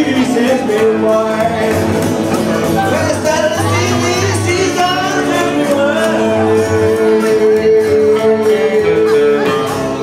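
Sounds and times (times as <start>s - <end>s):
rockabilly trio playing: 0.0s - 10.0s.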